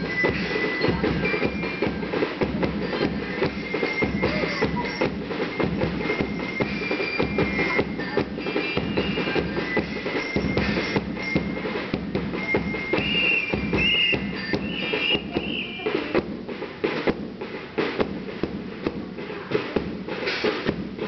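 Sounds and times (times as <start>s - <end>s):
music with steady drum beat: 0.0s - 21.0s.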